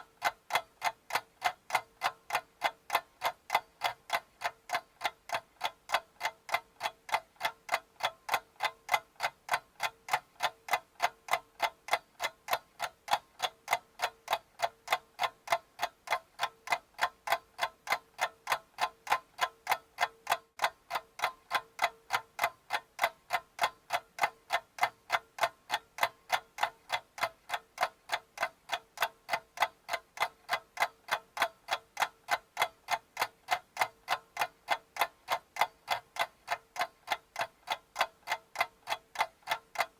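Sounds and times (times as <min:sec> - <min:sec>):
steady ticking: 0:00.0 - 0:39.9.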